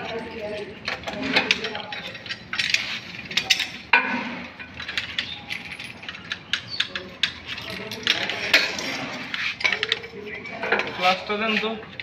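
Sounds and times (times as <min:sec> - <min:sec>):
metal bolts and tools clinking: 0:00.0 - 0:12.0.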